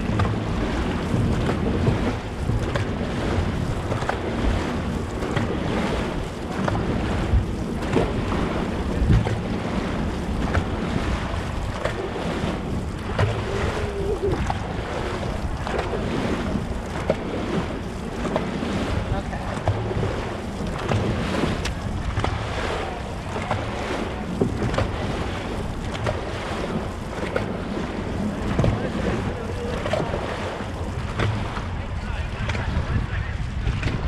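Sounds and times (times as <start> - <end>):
rushing splashing water: 0.0 - 34.0
wind buffeting microphone: 0.0 - 34.0.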